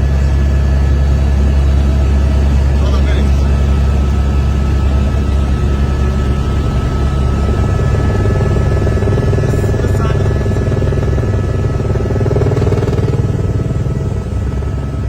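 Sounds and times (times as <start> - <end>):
helicopter rotor and turbine drone: 0.0 - 15.0.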